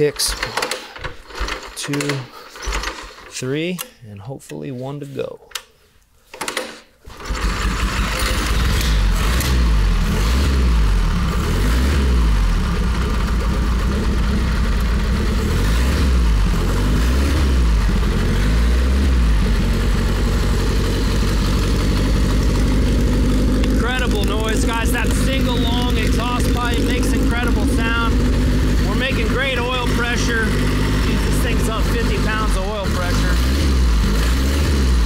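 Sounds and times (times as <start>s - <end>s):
motorcycle engine starting and running: 0.0s - 3.4s, 6.4s - 35.0s.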